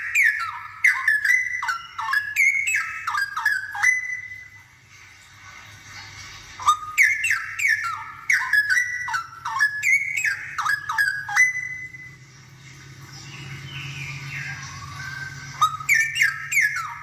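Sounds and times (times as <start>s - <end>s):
bird singing whistled notes: 0.0s - 4.7s, 6.6s - 12.2s, 13.2s - 17.0s.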